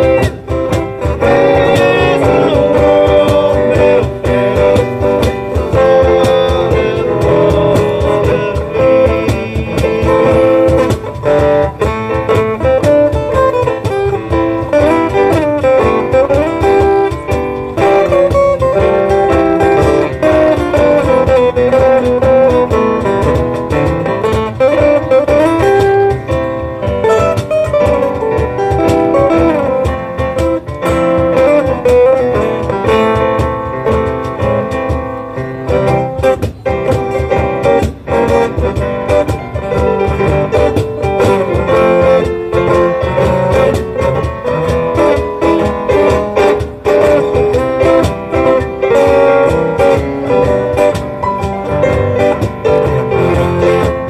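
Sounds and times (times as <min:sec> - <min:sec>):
acoustic guitar: 0:00.0 - 0:54.0
cajon strikes: 0:00.0 - 0:54.0
keyboard piano: 0:00.0 - 0:54.0.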